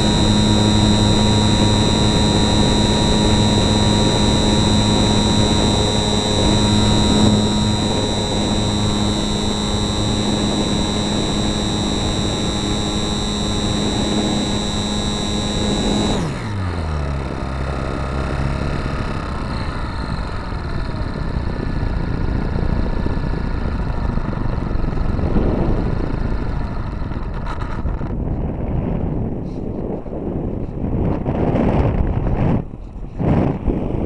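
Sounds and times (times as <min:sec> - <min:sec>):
model plane motor whining: 0:00.0 - 0:28.2
wind noise: 0:00.0 - 0:34.0.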